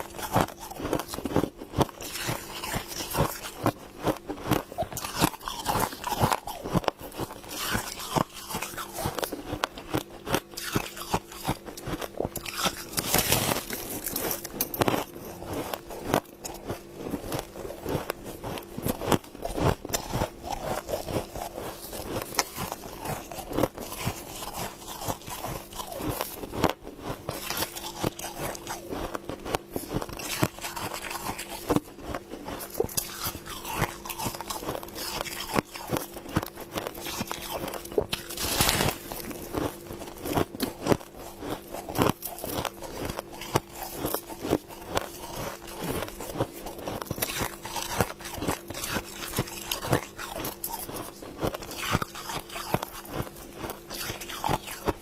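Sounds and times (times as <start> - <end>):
crunching and chewing frost: 0.0 - 55.0.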